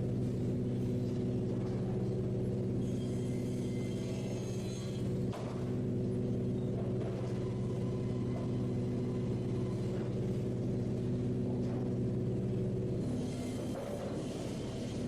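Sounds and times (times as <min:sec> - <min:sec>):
sawmill machinery hum: 0:00.0 - 0:15.0.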